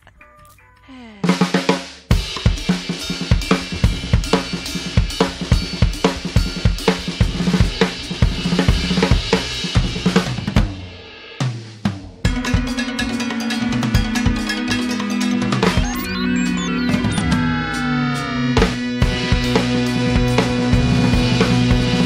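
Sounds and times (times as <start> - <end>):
music with drum-kit beat: 1.2 - 22.0.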